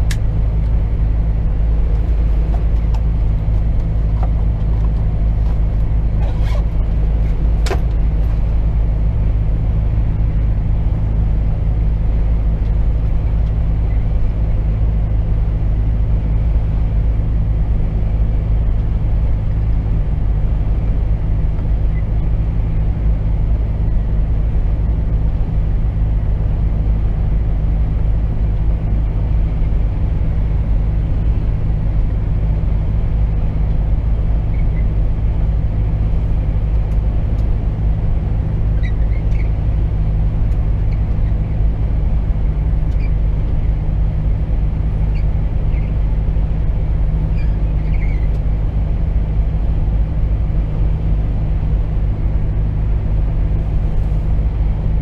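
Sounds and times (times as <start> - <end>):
diesel truck engine drone: 0.0 - 55.0
tyre and road noise: 0.0 - 55.0.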